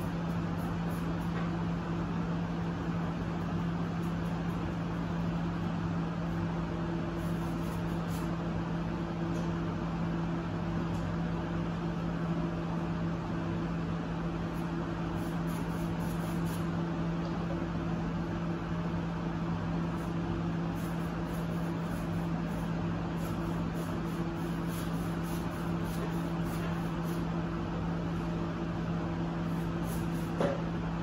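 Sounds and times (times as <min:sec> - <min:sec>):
low electric hum: 0:00.0 - 0:31.0.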